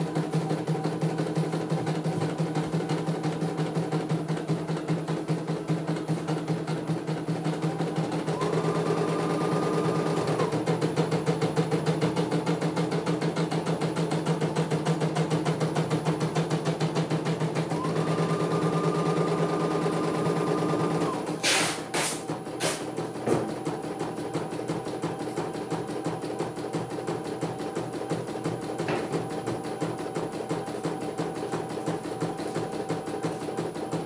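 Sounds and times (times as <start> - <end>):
embroidery machine stitching: 0.0 - 34.0.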